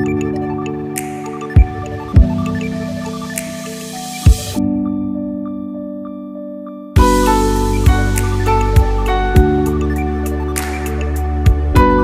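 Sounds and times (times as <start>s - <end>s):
held notes and chords: 0.0s - 12.0s.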